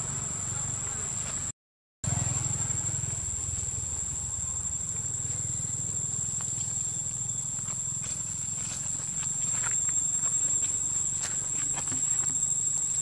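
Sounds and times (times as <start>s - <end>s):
high-pitched whine: 2.1s - 13.0s.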